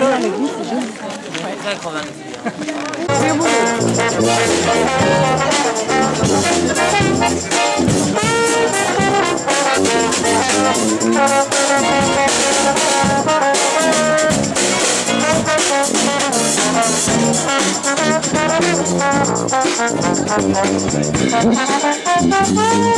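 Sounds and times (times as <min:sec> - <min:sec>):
brass band playing: 0:03.1 - 0:22.9.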